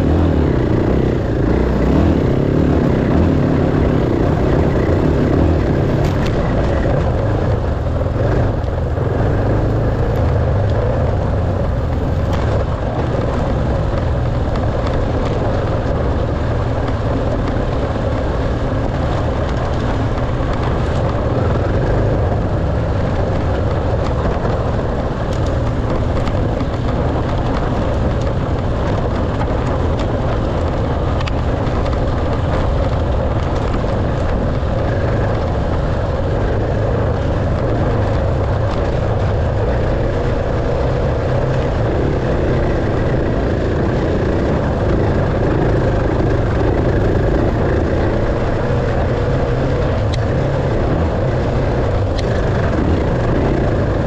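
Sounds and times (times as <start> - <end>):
dirt bike engine rumbling: 0.0 - 54.0.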